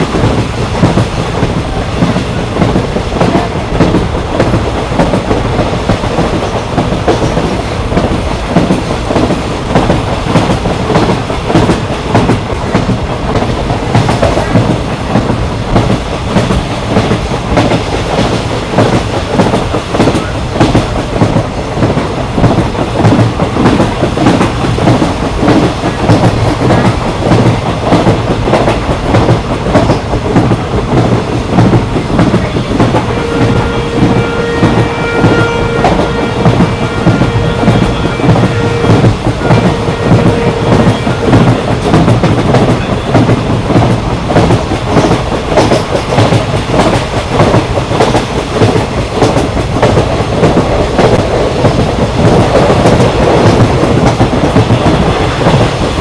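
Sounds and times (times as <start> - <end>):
train rumble: 0.0 - 56.0
train wheels clattering over joints: 0.0 - 56.0.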